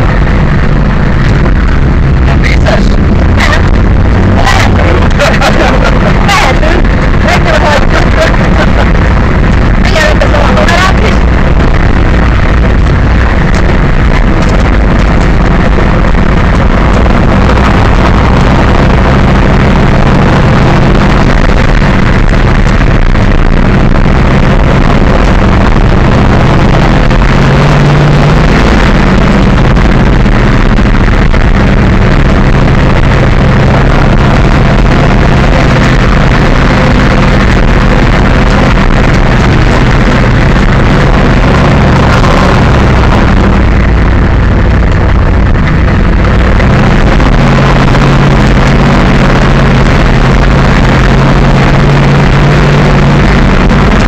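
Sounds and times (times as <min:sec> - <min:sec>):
truck engine running loud: 0:00.0 - 0:54.0.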